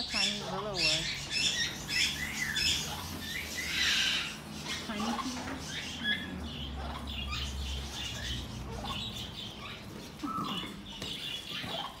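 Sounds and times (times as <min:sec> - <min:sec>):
parrots chirping: 0:00.0 - 0:12.0.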